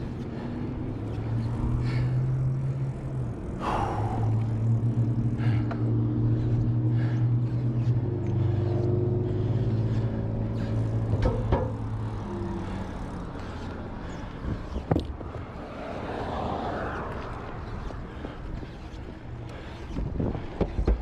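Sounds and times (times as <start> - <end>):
bicycle rolling hum: 0.0 - 21.0
road traffic: 0.0 - 21.0.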